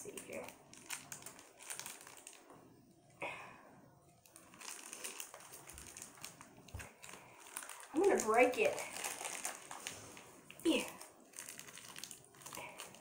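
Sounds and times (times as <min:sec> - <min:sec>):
plastic wrapping crinkling: 0:00.0 - 0:02.6, 0:04.2 - 0:13.0.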